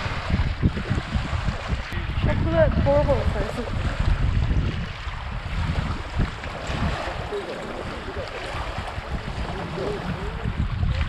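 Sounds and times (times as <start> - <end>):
small waves lapping: 0.0 - 11.0
wind gusting on microphone: 0.0 - 11.0.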